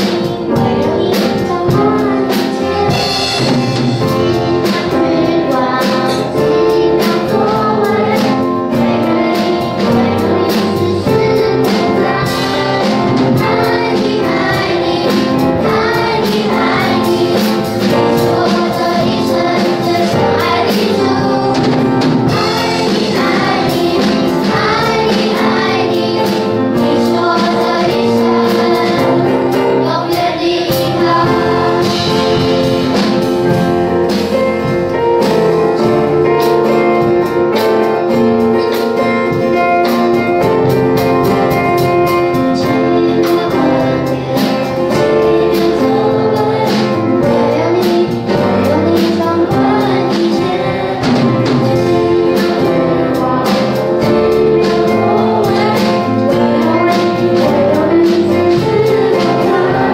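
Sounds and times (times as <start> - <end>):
children singing: 0.0 - 59.9
instrumental accompaniment: 0.0 - 59.9.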